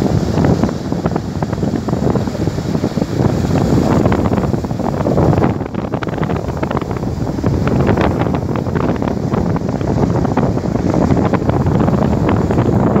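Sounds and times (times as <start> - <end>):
surf washing: 0.0 - 13.0
wind buffeting microphone: 0.0 - 13.0.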